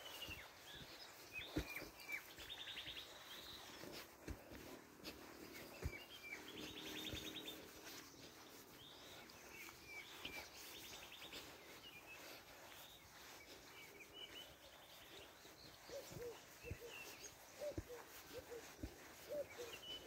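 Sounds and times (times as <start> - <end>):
bird chirps: 0.0 - 20.0
birds trilling: 0.0 - 20.0.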